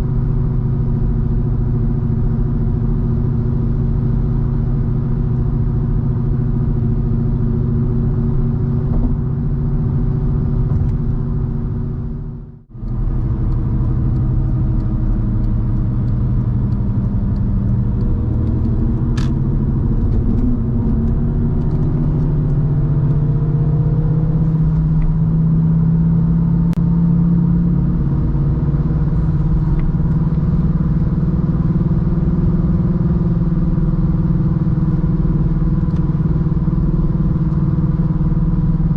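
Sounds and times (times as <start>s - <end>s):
car engine droning: 0.0s - 38.9s
road noise: 0.0s - 38.9s.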